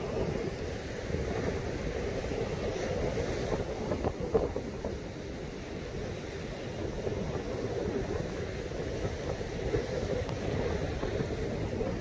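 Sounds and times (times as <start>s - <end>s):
heavy surf breaking on beach: 0.0s - 12.0s
wind rumbling on microphone: 0.0s - 12.0s.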